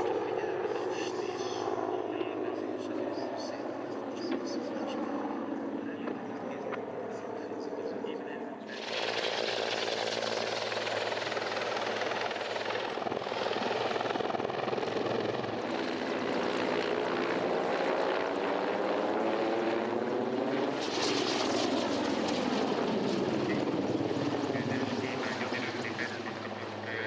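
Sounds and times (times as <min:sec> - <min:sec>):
helicopter flying past: 0:00.0 - 0:27.0.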